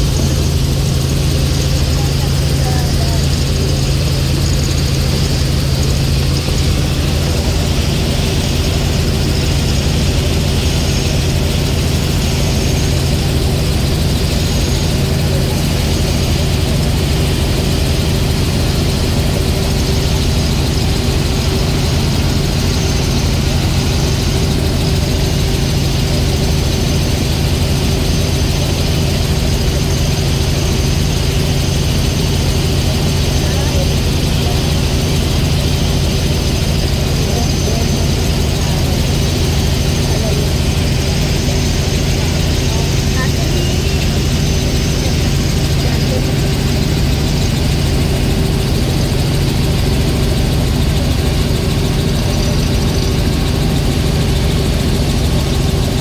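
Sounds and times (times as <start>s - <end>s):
helicopter engine and rotor drone: 0.0s - 56.0s
high whine: 0.0s - 56.0s.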